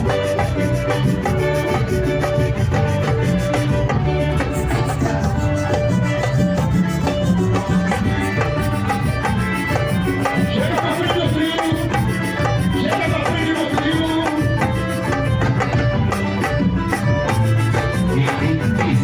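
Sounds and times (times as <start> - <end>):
shakers: 0.0 - 15.5
hand drums: 0.0 - 19.0
melody line: 0.0 - 19.0.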